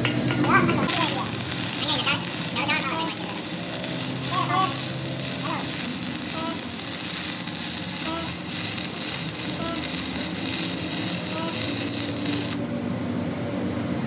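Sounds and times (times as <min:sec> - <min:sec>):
arc welding crackling hiss: 0:00.8 - 0:12.6.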